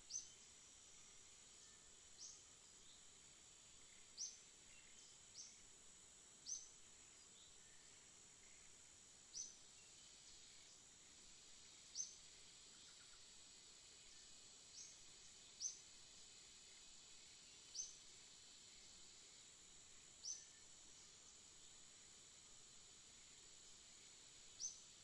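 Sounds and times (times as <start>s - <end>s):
steady high-pitched hiss: 0.0s - 25.0s.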